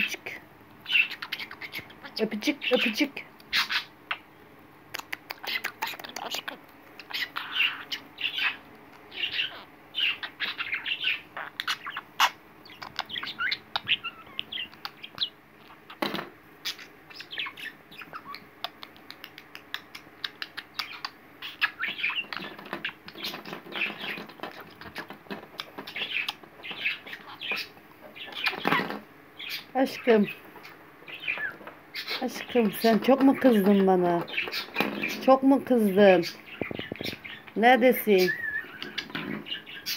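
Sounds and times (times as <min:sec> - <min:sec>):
budgerigar chirping: 0:00.0 - 0:04.3, 0:05.0 - 0:35.4, 0:36.2 - 0:39.9.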